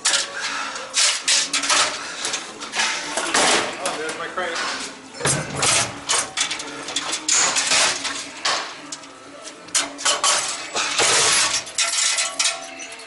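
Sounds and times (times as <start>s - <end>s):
metal parts clinking and clattering: 0.0s - 13.0s.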